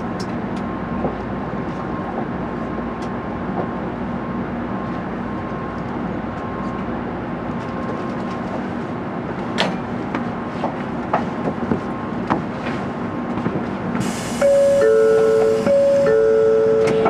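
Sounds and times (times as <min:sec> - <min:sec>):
train interior rumble and hum: 0:00.0 - 0:17.0.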